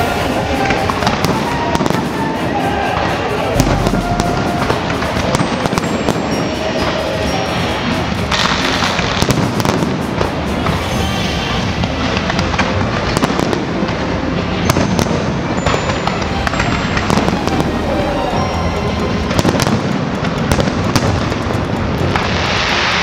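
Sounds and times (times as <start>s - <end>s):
fireworks bangs: 0.0s - 11.0s, 11.8s - 23.0s
fireworks crackling: 0.0s - 23.0s.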